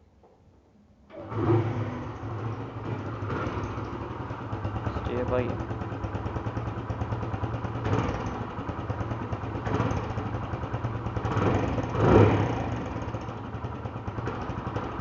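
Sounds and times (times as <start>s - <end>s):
motorcycle engine idling: 1.3s - 15.0s.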